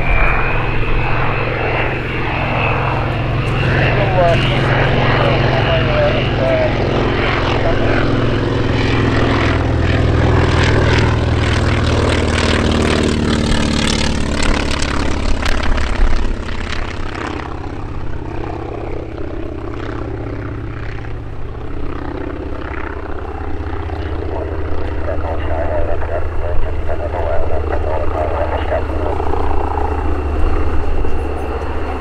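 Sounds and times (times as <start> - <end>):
propeller aircraft engine drone: 0.0 - 32.0.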